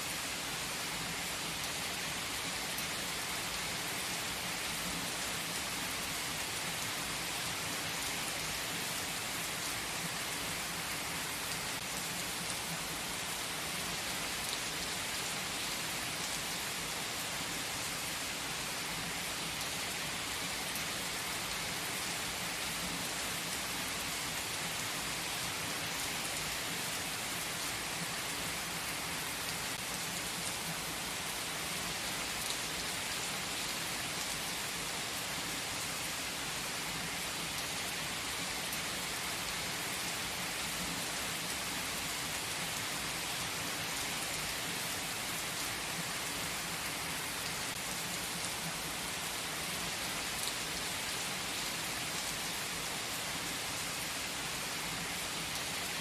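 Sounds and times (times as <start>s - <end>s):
steady rain-like hiss: 0.0s - 56.0s.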